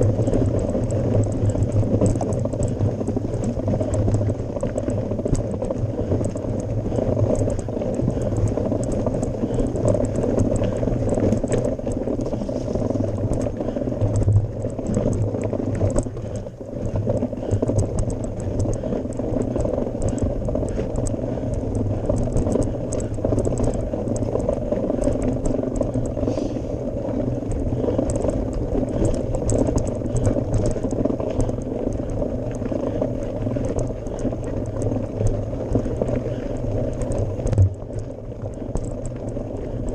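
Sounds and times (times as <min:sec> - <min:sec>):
bike rattles: 0:00.0 - 0:39.9
wind rumble on microphone: 0:00.0 - 0:39.9.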